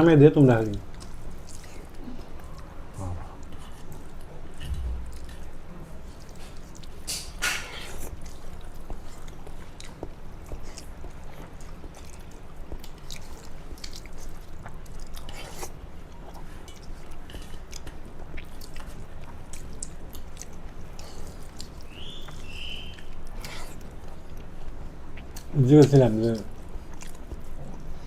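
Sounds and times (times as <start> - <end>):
person chewing food: 0.6 - 28.0.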